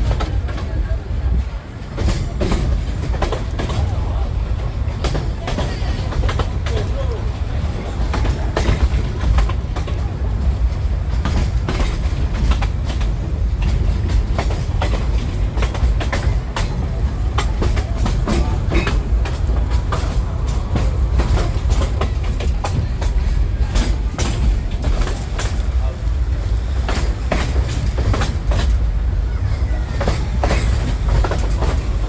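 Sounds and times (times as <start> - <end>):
steam train rumbling: 0.0 - 32.0
wheels clicking over rails: 0.0 - 32.0.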